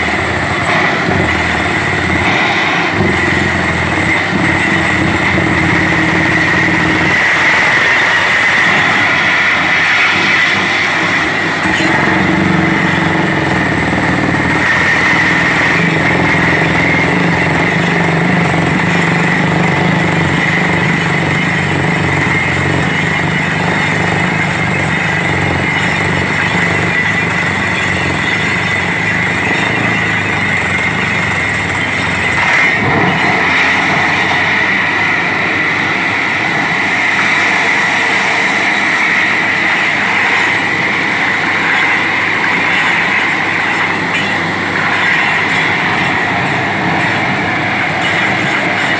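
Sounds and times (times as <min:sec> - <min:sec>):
constant high whine: 0:00.0 - 0:48.9
drilling rig running: 0:00.0 - 0:48.9.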